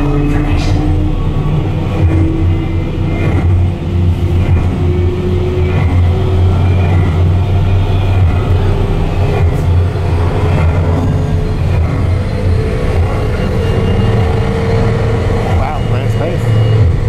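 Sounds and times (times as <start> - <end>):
deep steady rumble: 0.0 - 17.0.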